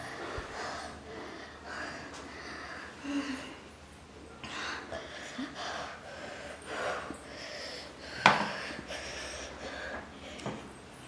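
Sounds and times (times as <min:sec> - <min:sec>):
woman breathing hard: 0:00.0 - 0:03.7, 0:04.4 - 0:10.6.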